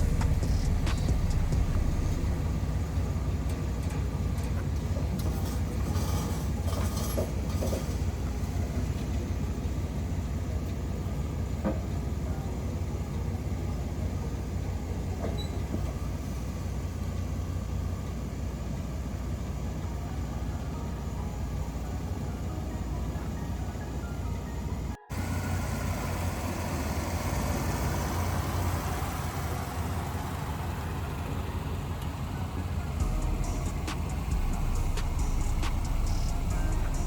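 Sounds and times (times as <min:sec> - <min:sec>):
vehicle engine rumble: 0:00.0 - 0:37.0.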